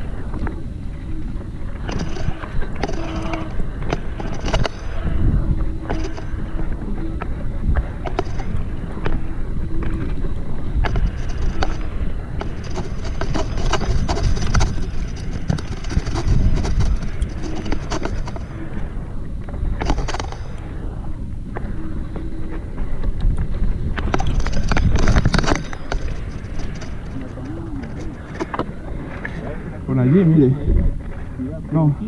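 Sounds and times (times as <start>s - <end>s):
bike rattling over bumps: 0.0s - 19.0s, 19.6s - 20.6s, 23.4s - 29.3s
wind buffeting microphone: 0.0s - 32.0s.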